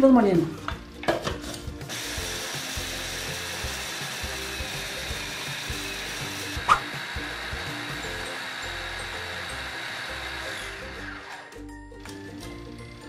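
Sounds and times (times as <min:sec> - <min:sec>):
electric coffee grinder running: 0:00.7 - 0:13.0.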